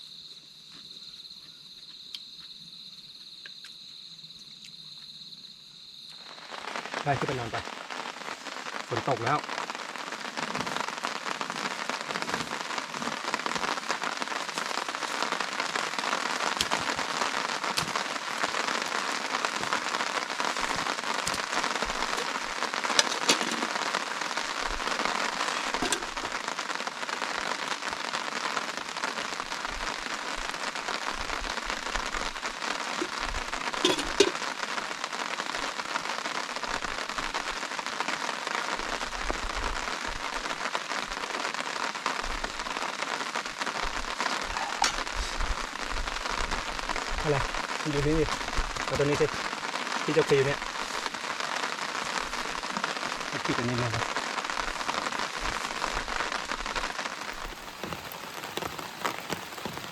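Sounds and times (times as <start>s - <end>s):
rain pattering: 6.1s - 59.9s.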